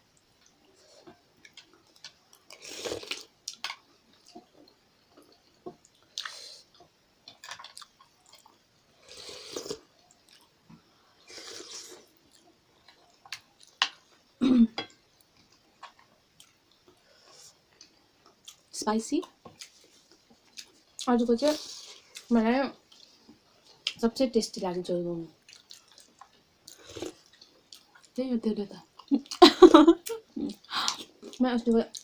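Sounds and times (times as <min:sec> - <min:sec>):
chewing and wet mouth sounds: 0:00.2 - 0:08.6, 0:09.2 - 0:14.1, 0:15.2 - 0:24.0, 0:25.4 - 0:28.2, 0:30.0 - 0:32.0.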